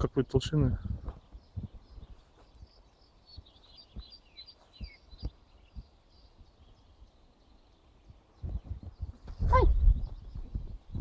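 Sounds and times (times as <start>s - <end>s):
faint birdsong chirps: 0.0s - 11.0s
soft low thumps: 0.8s - 7.1s, 8.0s - 11.0s.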